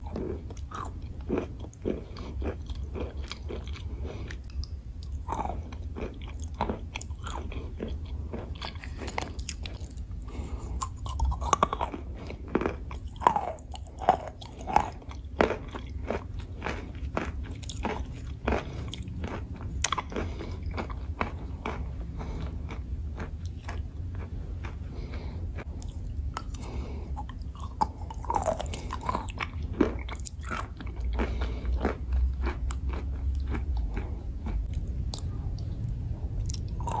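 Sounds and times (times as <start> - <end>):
chalk being bitten and chewed: 0.0 - 37.0.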